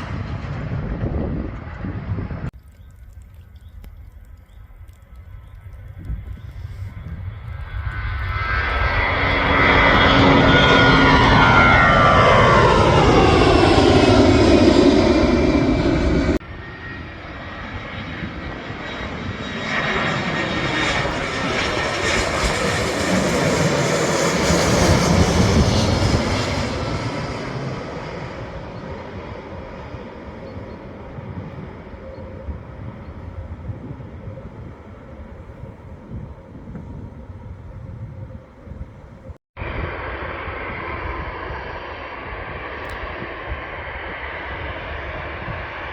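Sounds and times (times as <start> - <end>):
aircraft engine rumble: 0.0 - 45.9
airplane engines whining past: 0.0 - 45.9.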